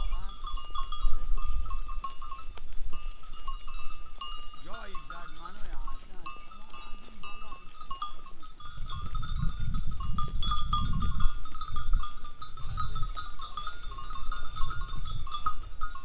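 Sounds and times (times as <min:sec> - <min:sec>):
small animal bells clinking: 0:00.0 - 0:16.0.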